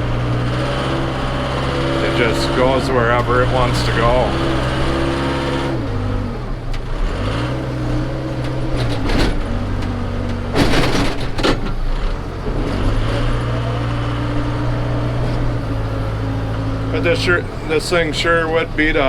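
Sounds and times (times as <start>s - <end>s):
diesel engine working under load: 0.0s - 19.0s.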